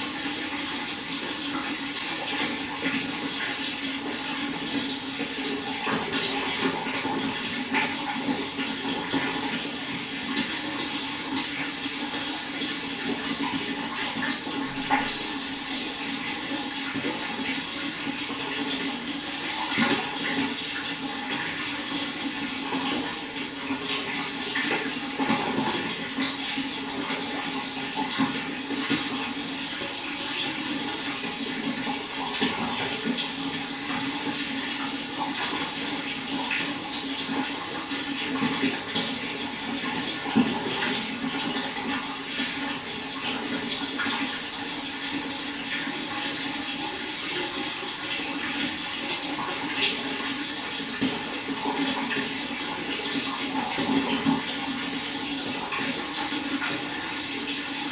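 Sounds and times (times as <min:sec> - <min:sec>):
running water splashing: 0:00.0 - 0:57.9.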